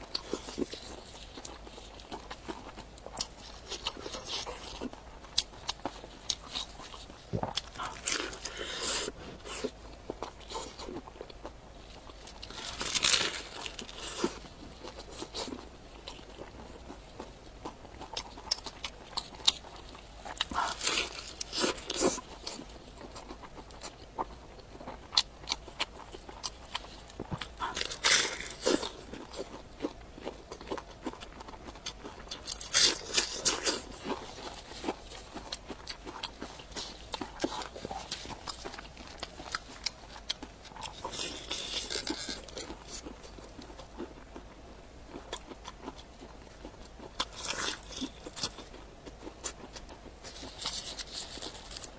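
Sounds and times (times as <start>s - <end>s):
chewing and crunching: 0.0s - 51.9s.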